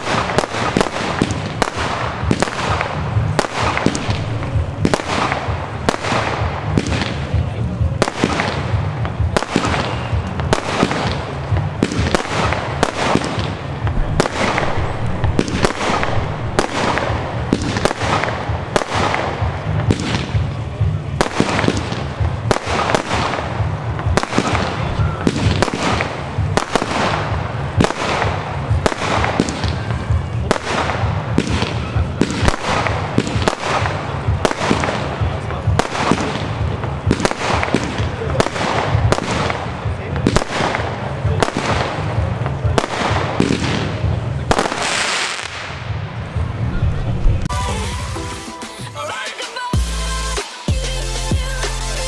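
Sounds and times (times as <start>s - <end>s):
firework shots crackling: 0.0s - 50.7s.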